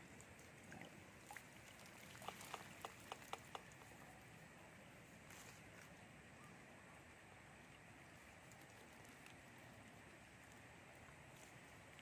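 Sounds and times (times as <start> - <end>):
light rain hiss: 0.0 - 12.0.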